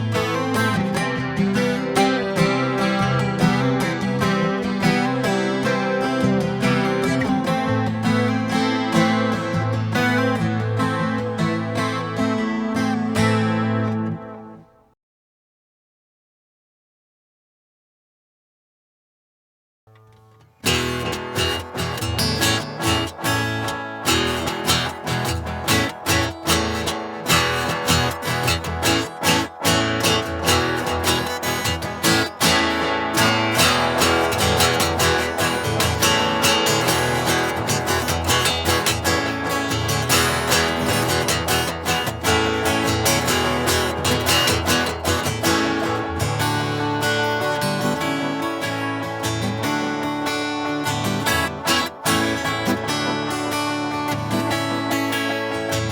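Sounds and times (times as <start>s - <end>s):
acoustic guitar strumming: 0.0s - 14.9s, 19.9s - 55.9s.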